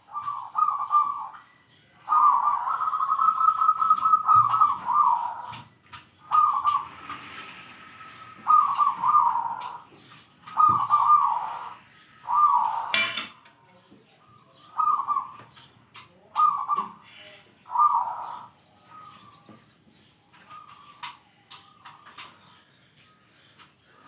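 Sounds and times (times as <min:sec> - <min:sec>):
dove cooing: 0:00.0 - 0:13.4, 0:14.3 - 0:19.6, 0:20.3 - 0:22.6.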